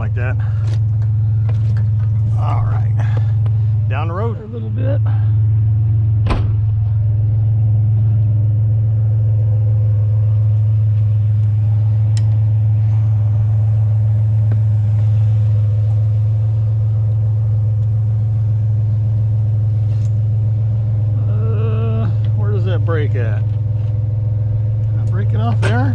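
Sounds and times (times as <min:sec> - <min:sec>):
truck engine and road noise: 0:00.0 - 0:25.9.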